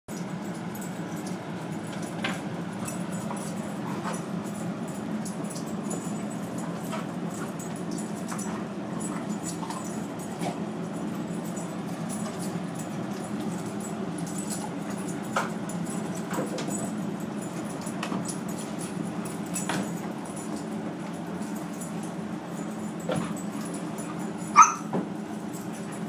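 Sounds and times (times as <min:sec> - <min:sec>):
dogs play-fighting: 0:00.1 - 0:26.0.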